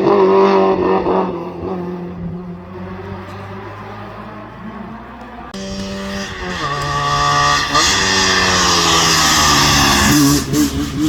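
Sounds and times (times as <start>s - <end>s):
rally car engine at full throttle: 0.0s - 11.0s.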